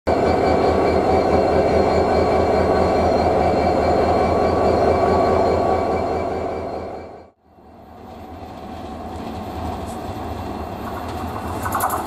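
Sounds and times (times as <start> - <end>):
diesel locomotive engine throbbing: 0.1 - 12.0.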